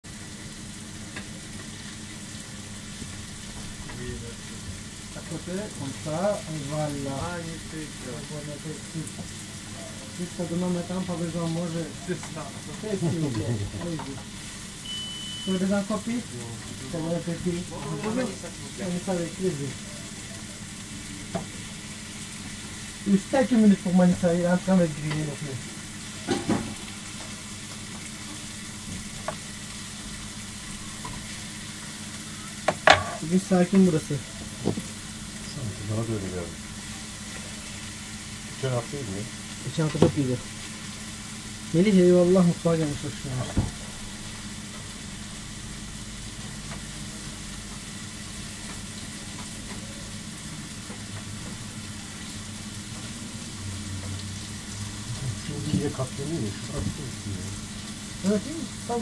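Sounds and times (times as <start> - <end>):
meat sizzling on griddle: 0.0 - 59.0.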